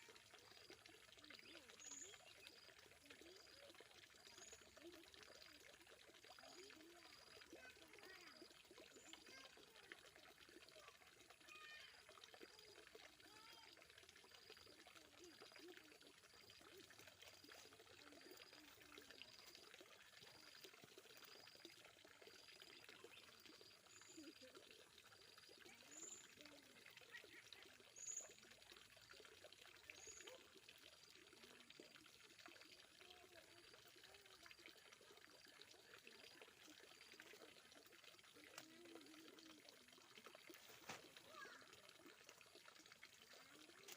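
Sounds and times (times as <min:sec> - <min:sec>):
faint trickle of water: 0:00.0 - 0:43.9.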